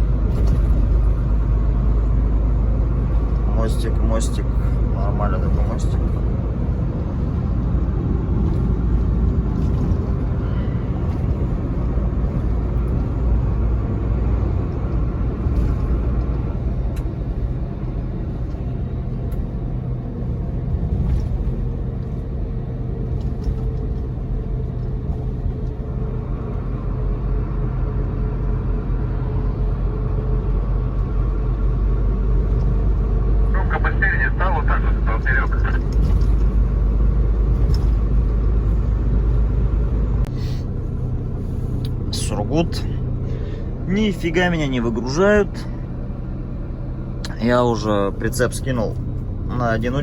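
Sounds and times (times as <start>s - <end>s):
truck engine and road rumble: 0.0s - 50.0s.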